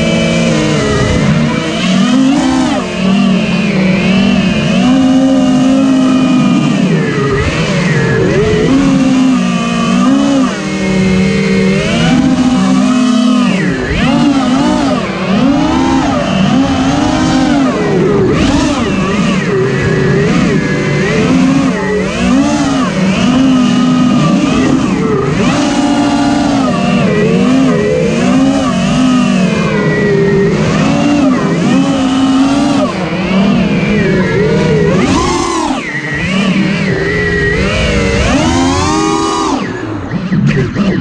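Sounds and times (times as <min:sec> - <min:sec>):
drone propellers whining: 0:00.0 - 0:41.0.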